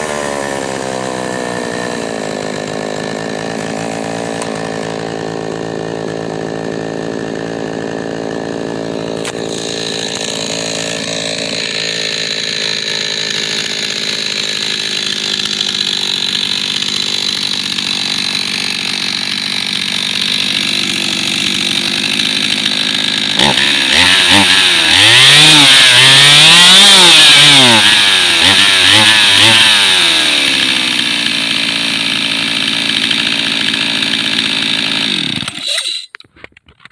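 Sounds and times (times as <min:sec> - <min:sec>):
chainsaw idling and revving: 0:00.0 - 0:36.2.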